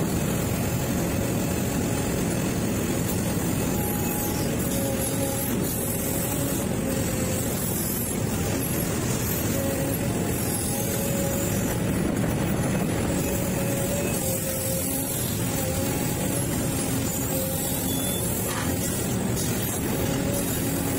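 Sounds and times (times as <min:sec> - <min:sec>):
excavator diesel engine running: 0:00.0 - 0:20.9
faint whine: 0:00.0 - 0:20.9.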